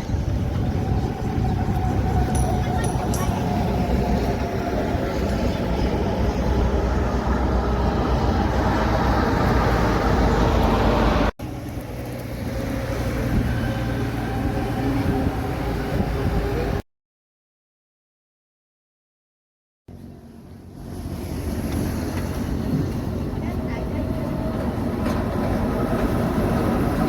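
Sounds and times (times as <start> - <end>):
heavy truck traffic rumble: 0.0 - 16.8, 20.0 - 27.0
steady engine hum: 0.0 - 16.8, 19.9 - 27.0.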